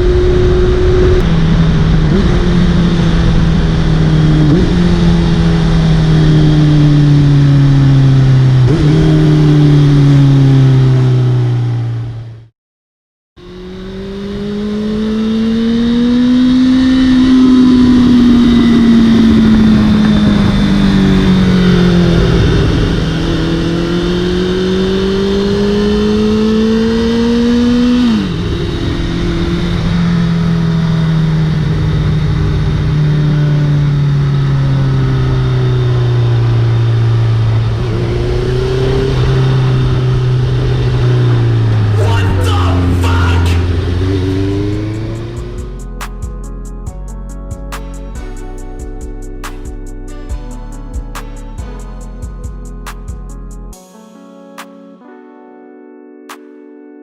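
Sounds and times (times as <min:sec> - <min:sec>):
motorcycle engine revving: 0:00.0 - 0:12.5, 0:13.4 - 0:53.6.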